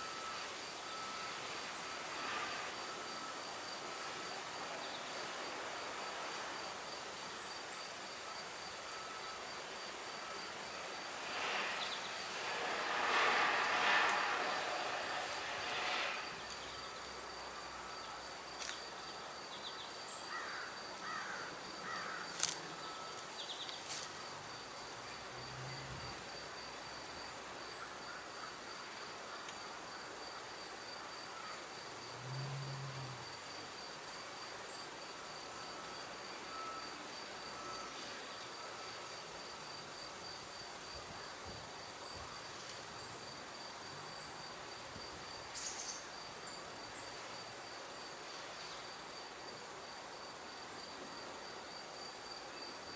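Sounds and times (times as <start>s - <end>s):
insect chirping trill: 0.0s - 52.9s.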